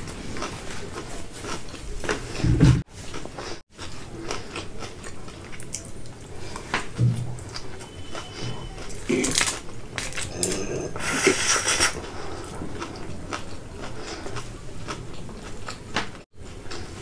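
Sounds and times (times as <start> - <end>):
person chewing noodles: 0.0 - 17.0.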